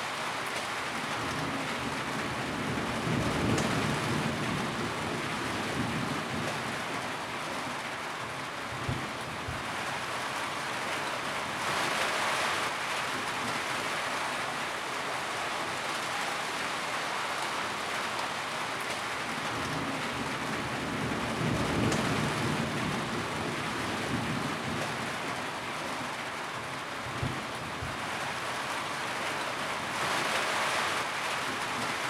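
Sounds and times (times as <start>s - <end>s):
rain on a tin roof: 0.0s - 32.0s.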